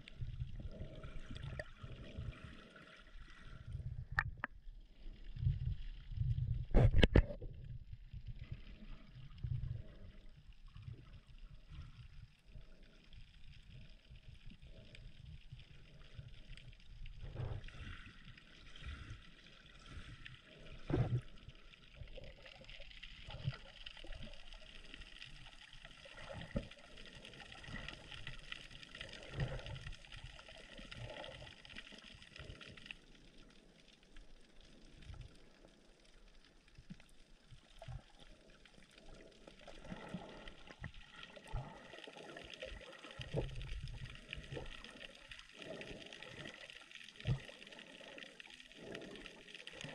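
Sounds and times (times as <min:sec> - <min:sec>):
water sloshing and gurgling: 0:00.0 - 0:49.9.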